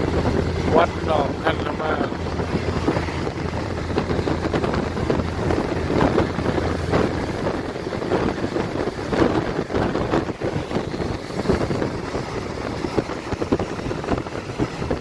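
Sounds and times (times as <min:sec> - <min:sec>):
train carriage rumble: 0:00.0 - 0:15.0
wind buffeting microphone: 0:00.0 - 0:15.0.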